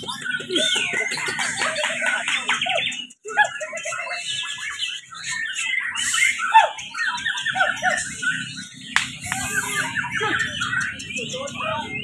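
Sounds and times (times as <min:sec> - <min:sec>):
murmur of voices: 0:00.0 - 0:05.1, 0:07.4 - 0:12.0
songbirds singing: 0:00.0 - 0:12.0.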